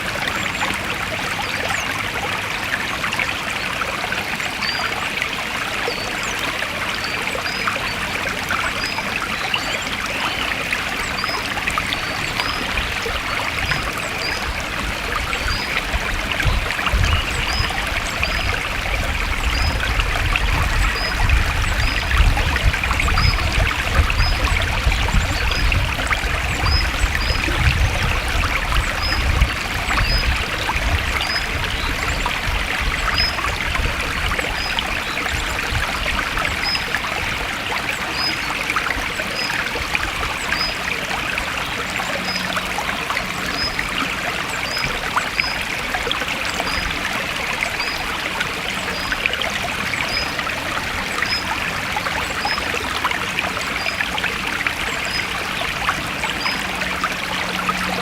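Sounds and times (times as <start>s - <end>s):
forest stream trickling: 0.0s - 58.0s.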